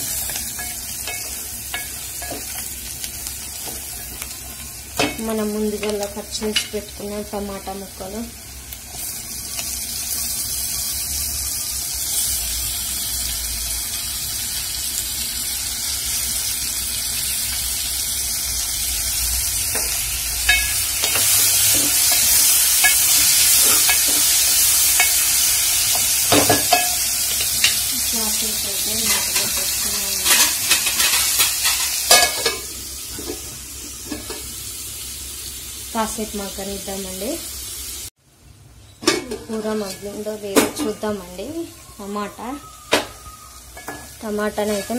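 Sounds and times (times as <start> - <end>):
tomatoes sizzling in oil: 0.0 - 44.9.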